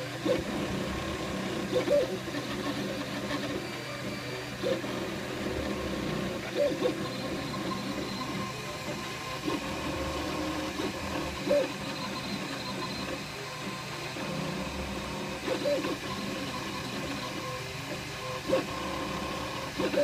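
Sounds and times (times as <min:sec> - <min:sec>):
printer fans and motors humming: 0:00.0 - 0:20.0.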